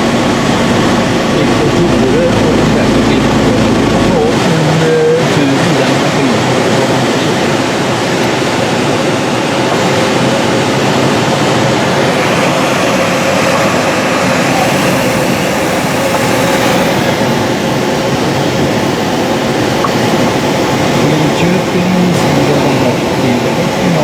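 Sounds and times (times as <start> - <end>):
rushing airflow in cockpit: 0.0 - 24.0.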